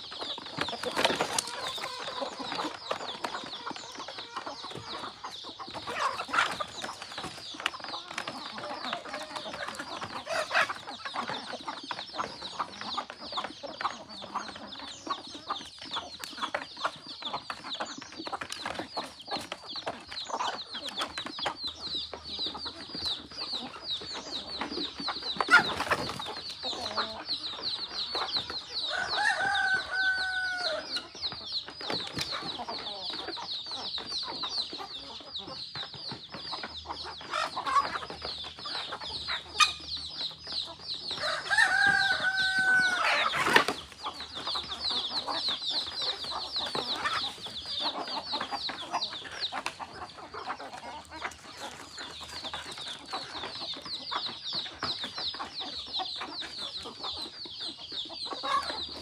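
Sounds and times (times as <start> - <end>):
chickens clucking: 0.0 - 59.0
chicks peeping: 0.0 - 59.0
long drawn-out chicken calls: 0.0 - 59.0.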